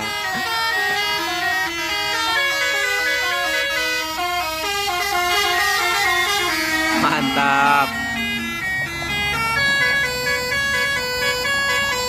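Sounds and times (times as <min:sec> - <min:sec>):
musical air horn tune: 0:00.0 - 0:12.0.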